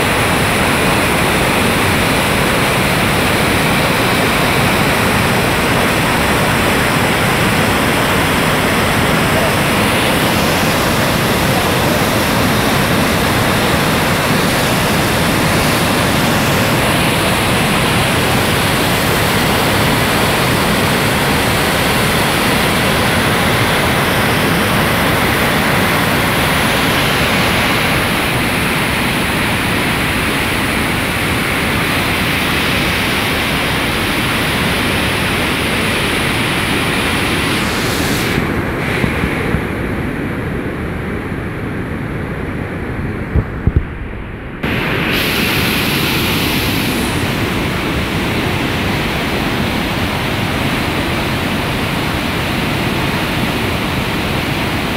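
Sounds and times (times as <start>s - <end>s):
floodwater torrent roaring: 0.0s - 54.9s.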